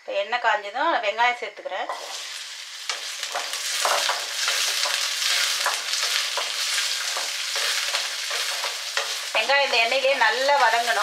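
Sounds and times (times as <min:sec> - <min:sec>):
shallots sizzling in oil: 0:01.0 - 0:11.0.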